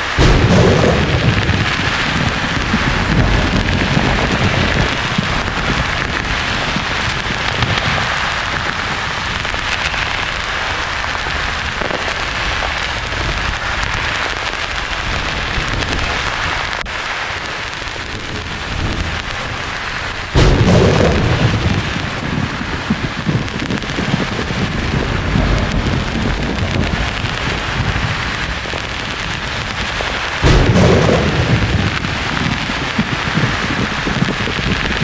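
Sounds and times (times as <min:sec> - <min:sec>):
thunder rumble: 0:00.0 - 0:35.0.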